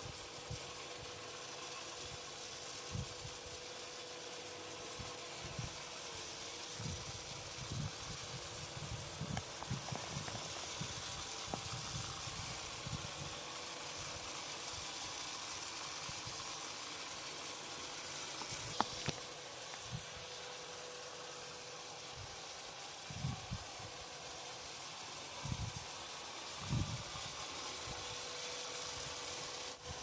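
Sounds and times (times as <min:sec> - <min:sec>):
robot vacuum fan hiss: 0:00.0 - 0:30.0.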